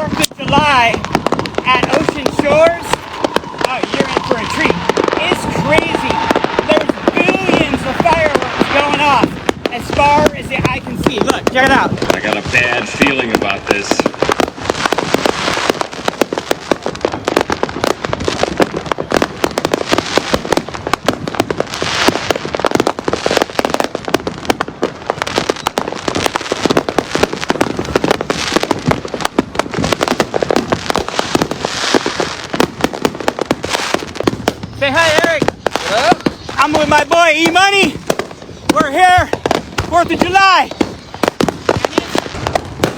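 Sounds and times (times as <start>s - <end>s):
fireworks bangs: 0.0s - 42.9s.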